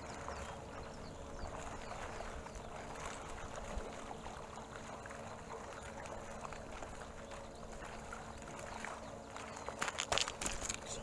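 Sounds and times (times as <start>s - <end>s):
faint steady hum: 0.0s - 11.0s
water moving against wharf: 0.0s - 11.0s.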